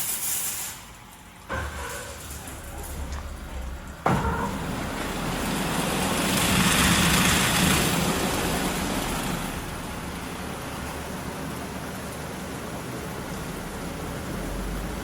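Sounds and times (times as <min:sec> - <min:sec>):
car wash water jets spraying: 0:00.0 - 0:15.0.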